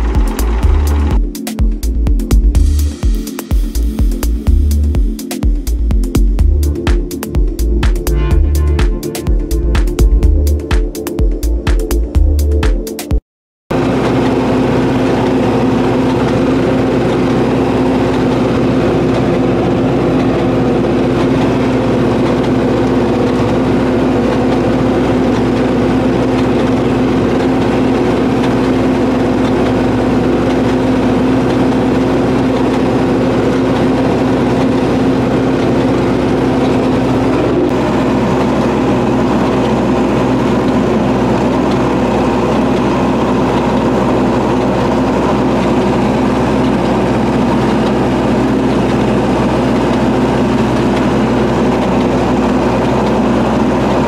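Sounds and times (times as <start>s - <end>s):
tractor diesel engine under load: 0.0s - 12.7s, 13.7s - 54.0s.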